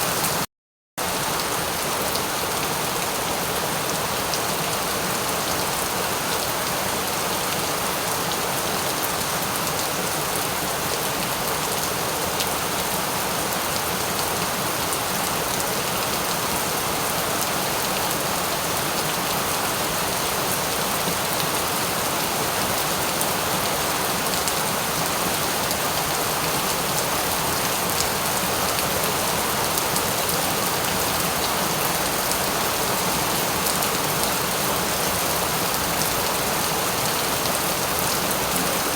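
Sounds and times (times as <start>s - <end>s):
steady rain falling: 1.0s - 38.9s.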